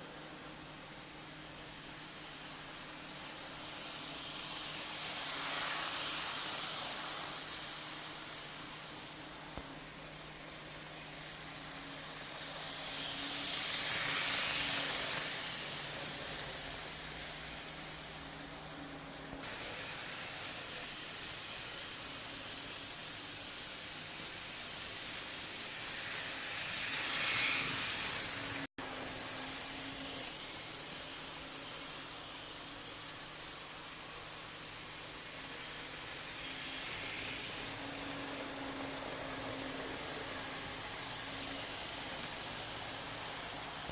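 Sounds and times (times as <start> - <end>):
model train whirring on track: 0.0 - 43.9.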